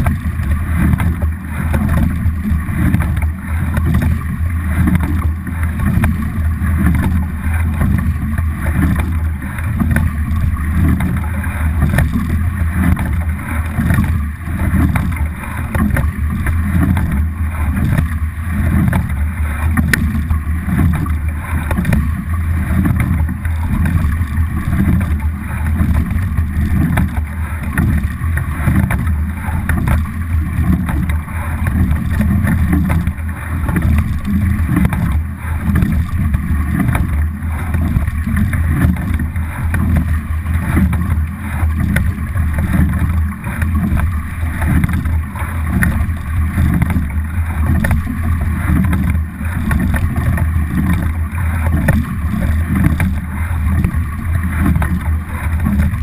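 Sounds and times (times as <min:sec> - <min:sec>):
water rushing along a hull: 0:00.0 - 0:56.0.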